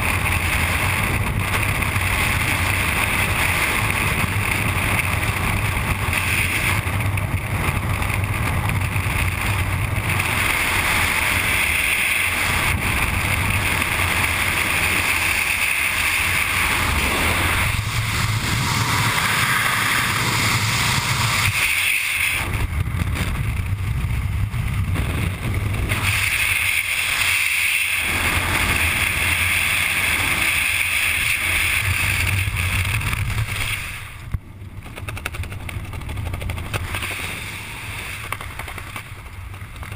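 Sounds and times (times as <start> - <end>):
wind roaring over camera: 0.0 - 39.9.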